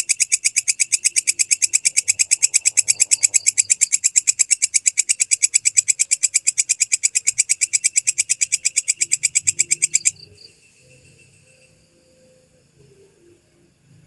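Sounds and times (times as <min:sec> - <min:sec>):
insect chirping pulses: 0:00.0 - 0:14.0.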